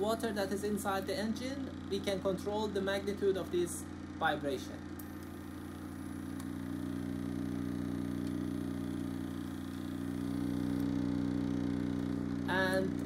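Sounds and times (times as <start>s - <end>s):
heat engine humming: 0.0s - 13.0s.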